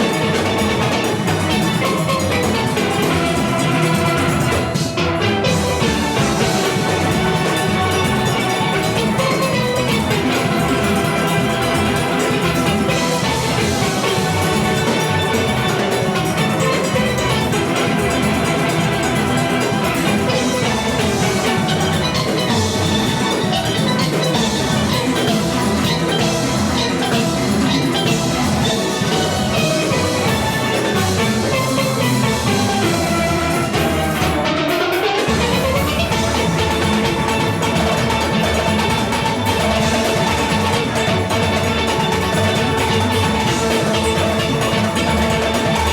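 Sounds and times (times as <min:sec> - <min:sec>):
drums: 0:00.0 - 0:45.9.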